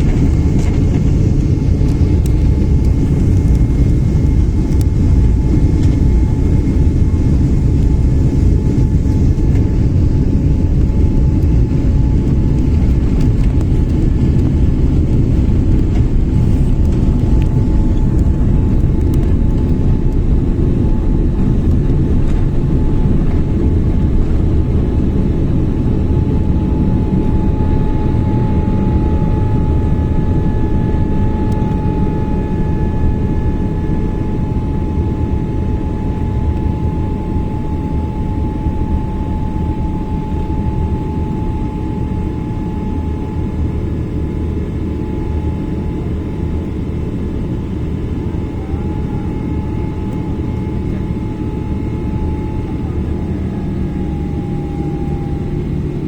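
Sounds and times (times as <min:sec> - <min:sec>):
jet engine roar in cabin: 0:00.0 - 0:56.0
thin steady whine: 0:00.0 - 0:56.0.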